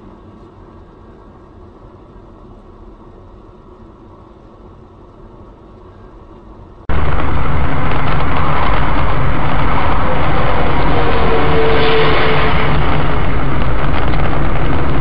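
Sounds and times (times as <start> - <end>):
car road and engine noise: 0.6 - 15.0.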